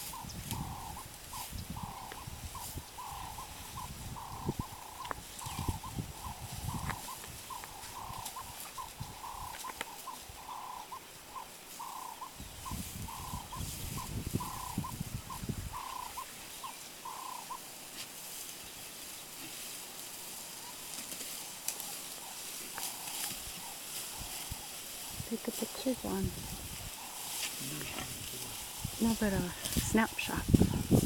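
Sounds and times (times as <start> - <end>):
bird calling: 0.0 - 17.8, 20.4 - 30.9.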